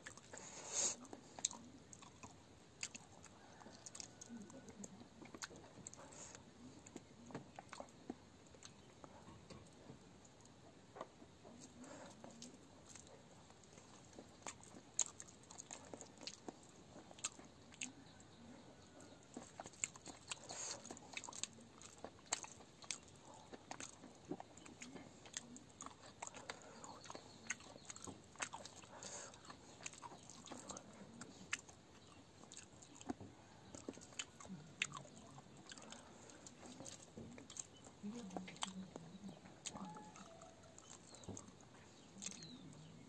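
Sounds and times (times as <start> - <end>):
person chewing: 0.0 - 43.0.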